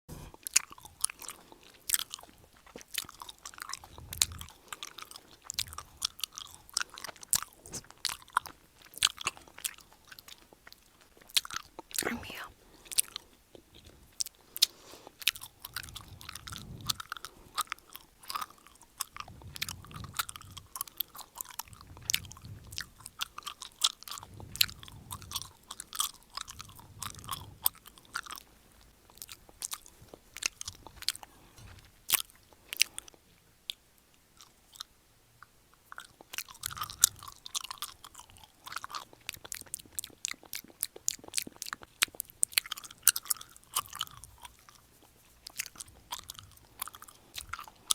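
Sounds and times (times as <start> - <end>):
person chewing gum: 0.1 - 47.9.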